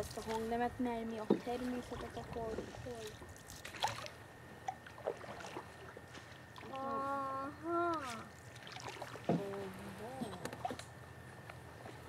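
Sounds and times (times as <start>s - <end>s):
paddle splashing water: 0.0s - 7.2s, 7.8s - 10.8s.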